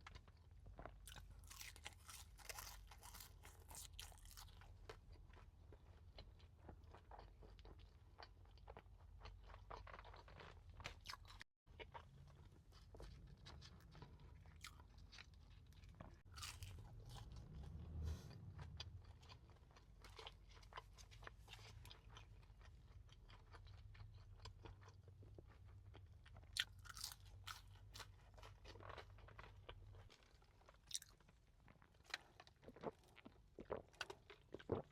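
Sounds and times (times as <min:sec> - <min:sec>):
chewing and crunching food: 0:00.0 - 0:34.9.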